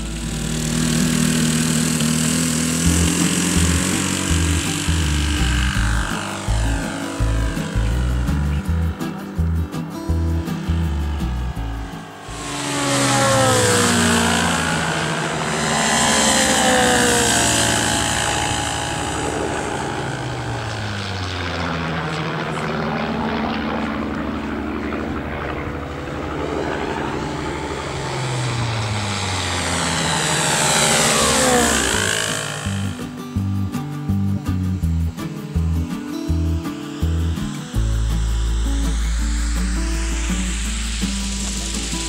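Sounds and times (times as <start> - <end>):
model plane propeller engine passing: 0.0 - 42.0.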